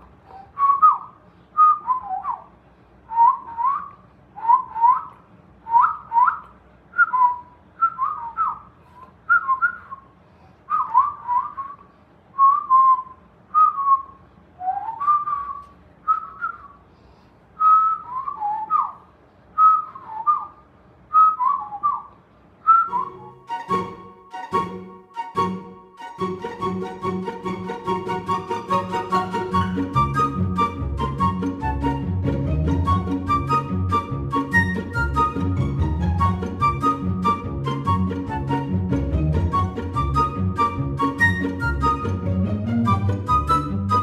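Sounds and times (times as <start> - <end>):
whistled chirps: 0.3 - 16.8, 17.6 - 25.6, 29.0 - 32.1, 32.7 - 38.9, 39.5 - 42.3, 42.9 - 44.0.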